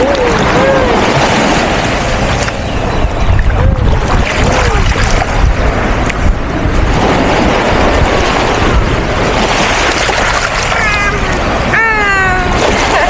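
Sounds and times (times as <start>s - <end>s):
sea waves washing in shallows: 0.0s - 13.0s
wind rumbling on microphone: 0.0s - 13.0s.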